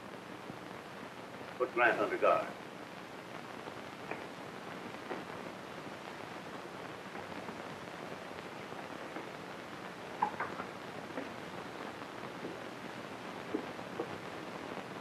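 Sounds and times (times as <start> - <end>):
film soundtrack hiss and crackle: 0.0 - 15.0.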